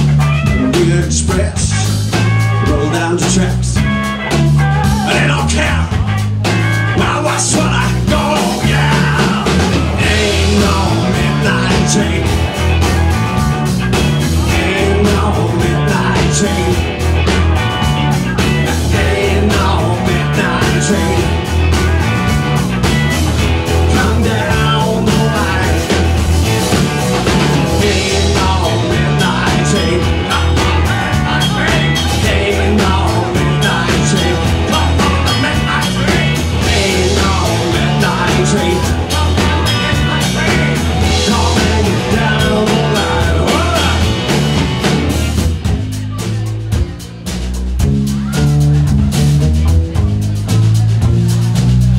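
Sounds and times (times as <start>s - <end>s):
blues-rock band playing: 0.0s - 51.9s.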